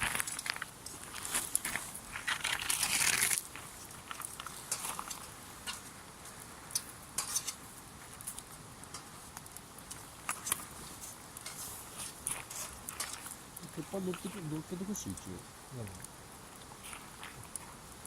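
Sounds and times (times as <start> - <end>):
campfire crackling and popping: 0.0 - 18.0
rustling hiss: 0.0 - 18.0.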